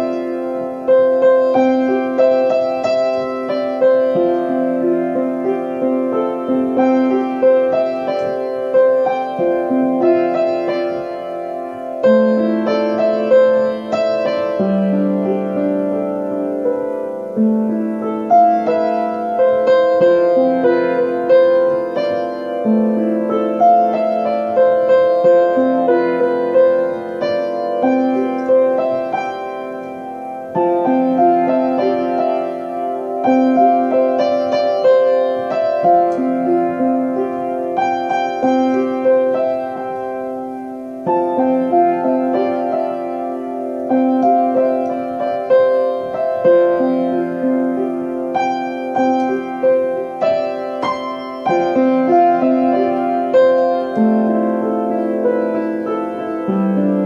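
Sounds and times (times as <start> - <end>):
solo piano music: 0.0 - 57.0.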